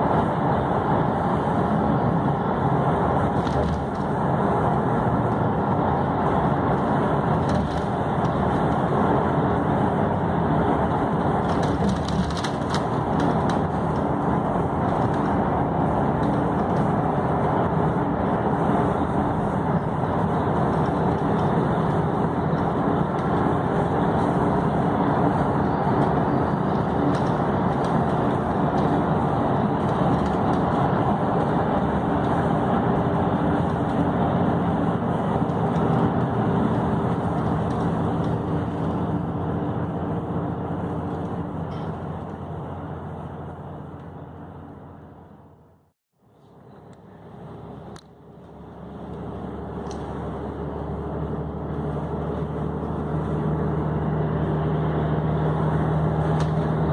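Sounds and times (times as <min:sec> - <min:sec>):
vehicle road and engine noise: 0:00.0 - 0:56.9.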